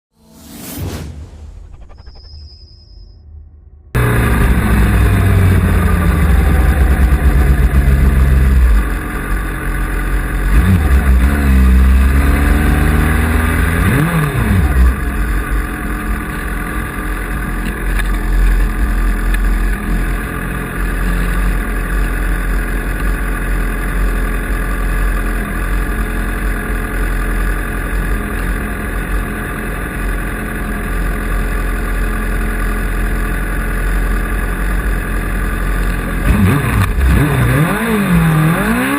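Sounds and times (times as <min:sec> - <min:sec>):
motorcycle engine revving: 0:03.9 - 0:38.9.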